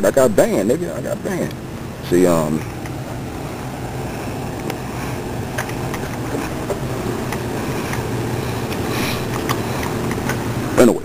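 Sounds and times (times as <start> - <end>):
low hum and rumble: 0.0 - 11.0.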